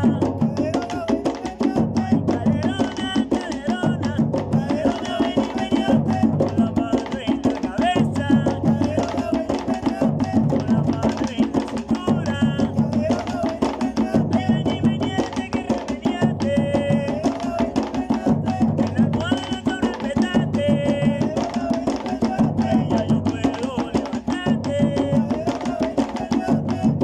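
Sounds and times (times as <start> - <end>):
hand drums playing rhythm: 0.0 - 27.0
voices singing: 0.0 - 27.0.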